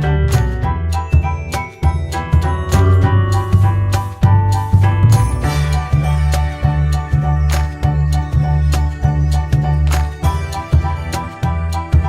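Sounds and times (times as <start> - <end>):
upbeat music with bass line: 0.0 - 12.0.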